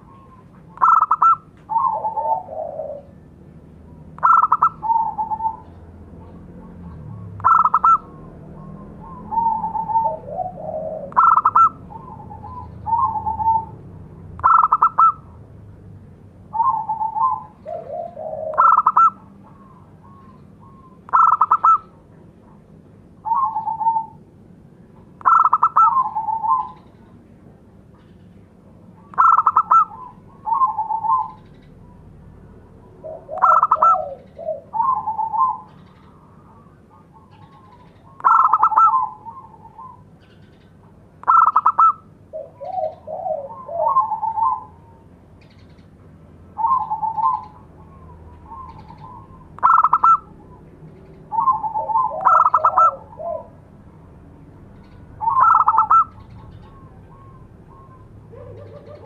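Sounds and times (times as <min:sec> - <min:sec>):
dove cooing: 0:00.0 - 0:15.4, 0:16.5 - 0:22.0, 0:23.2 - 0:24.3, 0:25.2 - 0:27.1, 0:28.9 - 0:40.6, 0:41.2 - 0:45.8, 0:46.4 - 0:59.0.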